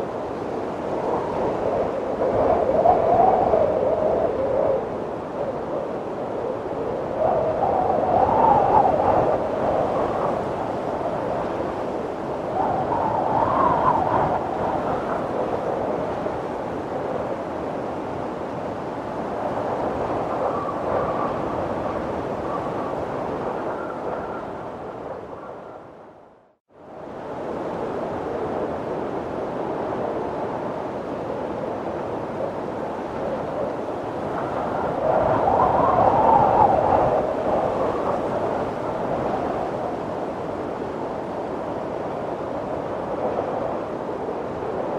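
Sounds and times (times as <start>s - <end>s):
wind howling: 0.0s - 44.9s.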